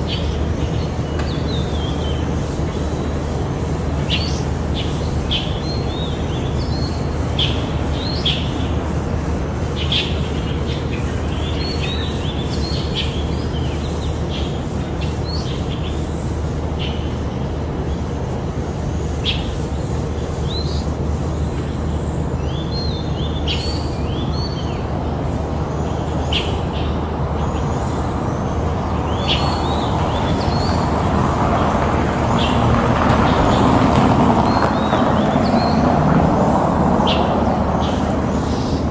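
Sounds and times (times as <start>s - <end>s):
birds chirping: 0.0s - 32.6s
road traffic rumble: 0.0s - 38.9s.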